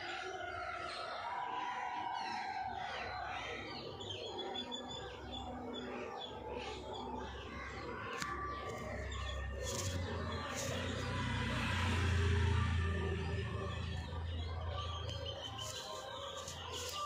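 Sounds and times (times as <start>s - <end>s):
birds chirping in chorus: 0.0s - 17.0s.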